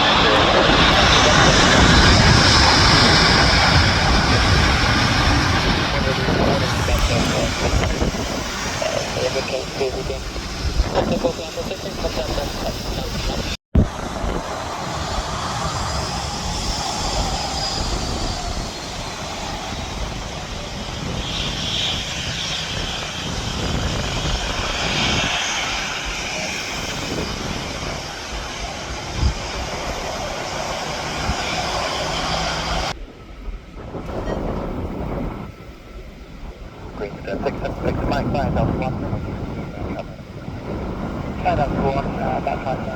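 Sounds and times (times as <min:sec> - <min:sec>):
aircraft engines running: 0:00.0 - 0:42.9
wind buffeting microphone: 0:00.0 - 0:42.9.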